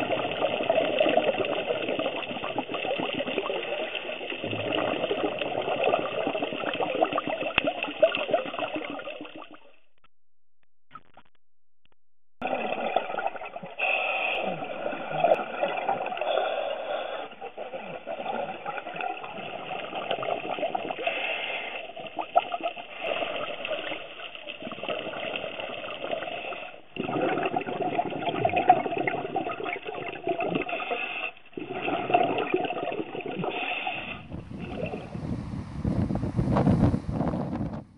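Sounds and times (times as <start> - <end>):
muffled underwater rushing: 0.0 - 9.9, 12.4 - 37.9.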